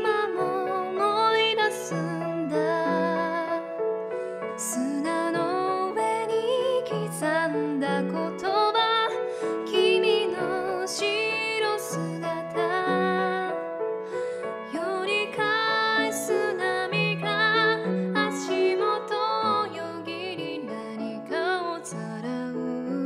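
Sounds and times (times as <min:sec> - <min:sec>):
woman singing slow ballad: 0:00.0 - 0:03.8, 0:04.5 - 0:13.8, 0:14.4 - 0:23.0
piano accompaniment: 0:00.0 - 0:23.0.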